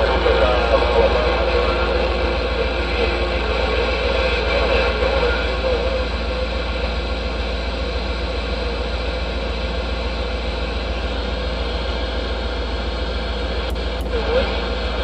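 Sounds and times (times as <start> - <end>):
constant low hum: 0.0 - 15.0
radio static hiss: 0.0 - 15.0.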